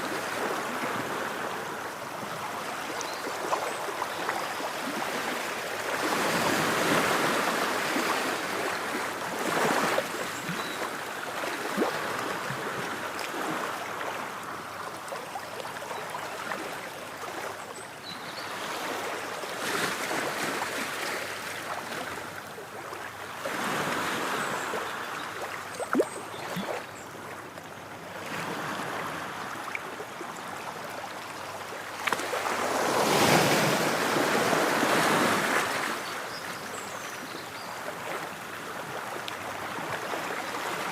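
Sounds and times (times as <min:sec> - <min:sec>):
ocean waves breaking on shore: 0:00.0 - 0:17.6, 0:18.2 - 0:40.9.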